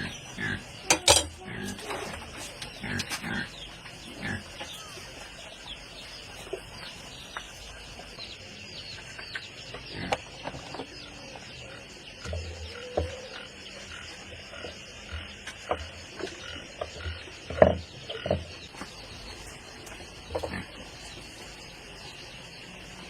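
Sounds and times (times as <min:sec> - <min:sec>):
frogs and insects trilling: 0:00.0 - 0:23.0.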